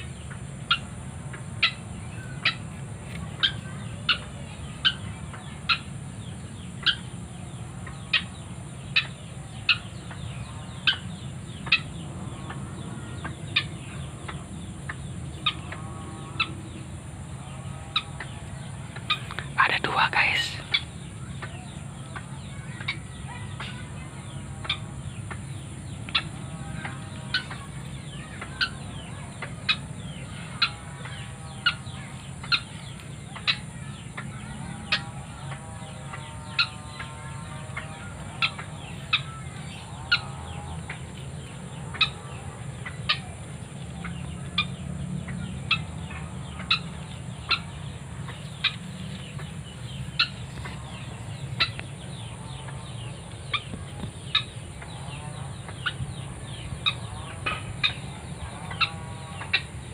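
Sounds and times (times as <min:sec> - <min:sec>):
bird clucking calls: 0:00.0 - 0:59.9.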